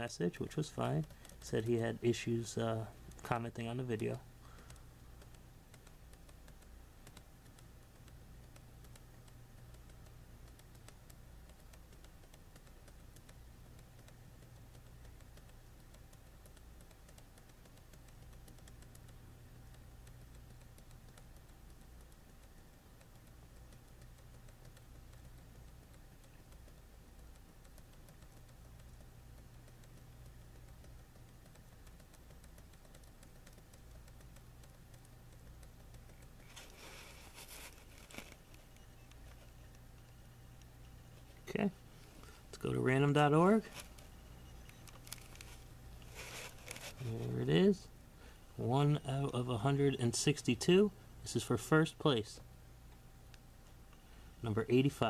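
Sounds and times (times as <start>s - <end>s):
steady low hum: 0.0s - 55.0s
computer scrolling clicks: 0.4s - 47.6s.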